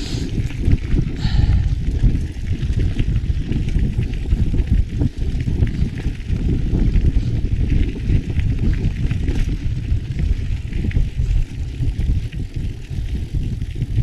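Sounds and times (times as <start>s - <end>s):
bike ticks and rattles: 0.0s - 14.0s
mountain bike rumbling over trail: 0.0s - 14.0s.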